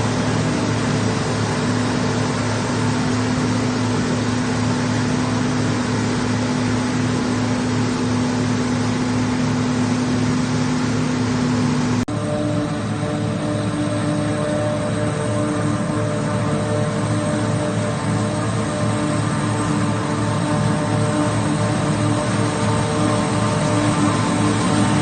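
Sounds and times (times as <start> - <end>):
harvesting machine engine drone: 0.0 - 25.0
machine drone with held tones: 0.0 - 25.0.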